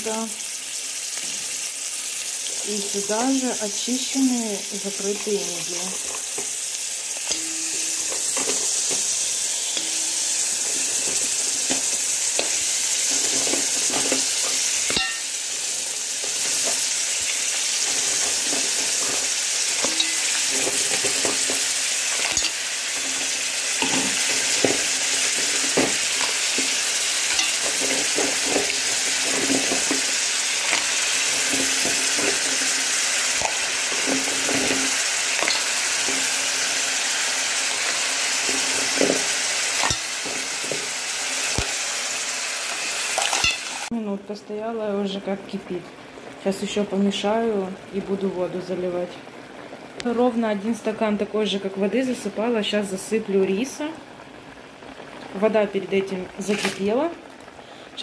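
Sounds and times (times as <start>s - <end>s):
mussels sizzling in hot oil: 0.0s - 58.0s.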